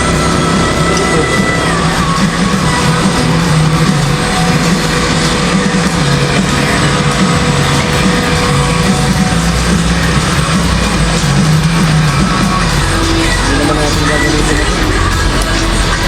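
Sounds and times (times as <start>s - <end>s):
rock music with guitar and bass: 0.0s - 16.0s.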